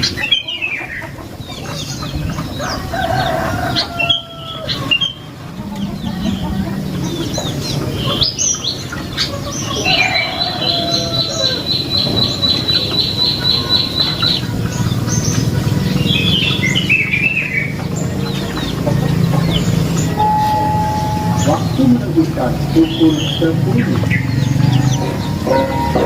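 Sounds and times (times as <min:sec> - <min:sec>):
bird chirping and trilling: 0:00.0 - 0:26.0.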